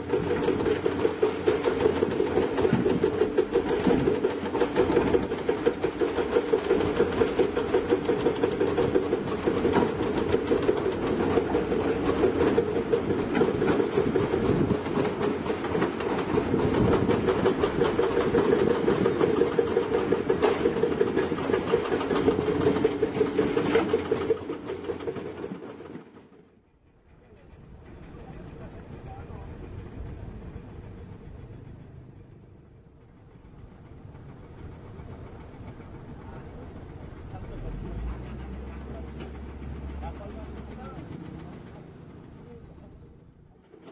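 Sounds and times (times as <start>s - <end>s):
diesel engine running: 0.0s - 26.0s, 27.6s - 43.9s.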